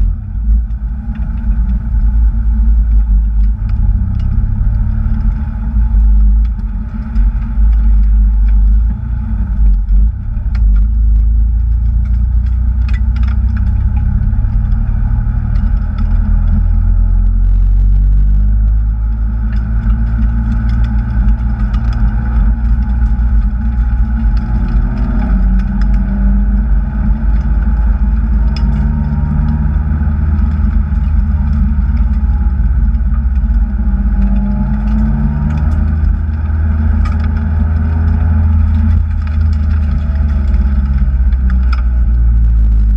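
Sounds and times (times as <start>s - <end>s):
supercharged car engine revving: 0.0s - 42.9s.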